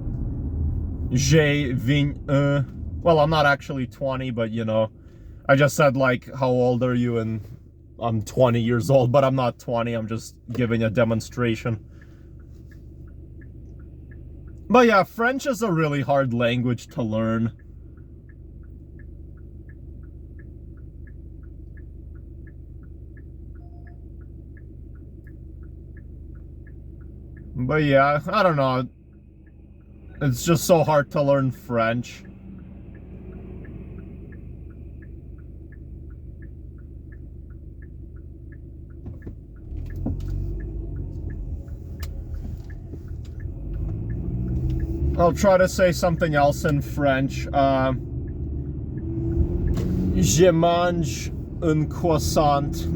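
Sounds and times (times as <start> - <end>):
car engine and road rumble: 0.0 - 52.9
turn signal ticking: 0.0 - 52.9.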